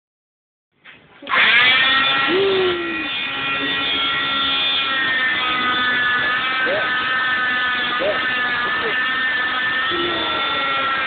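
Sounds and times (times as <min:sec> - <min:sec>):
cast saw motor whine: 0:01.3 - 0:11.0.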